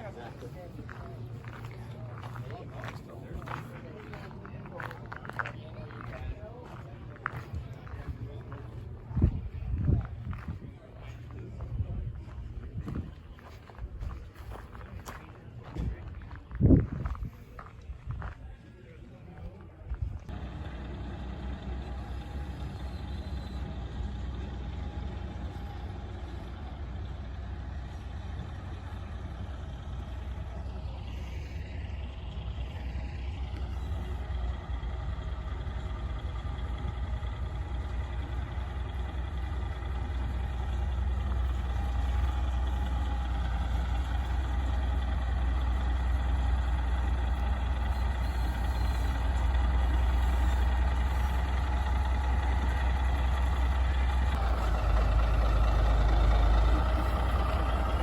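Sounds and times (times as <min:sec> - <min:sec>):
heavy truck engine rumbling: 0:00.0 - 0:58.0.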